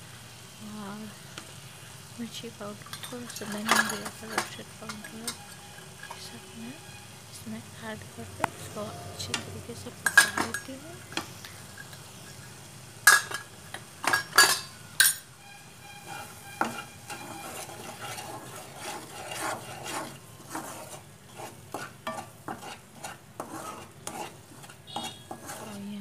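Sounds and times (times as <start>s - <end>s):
oil sizzling: 0.0s - 26.0s
spatula scraping a pan: 2.8s - 7.1s, 8.3s - 15.2s, 15.8s - 26.0s.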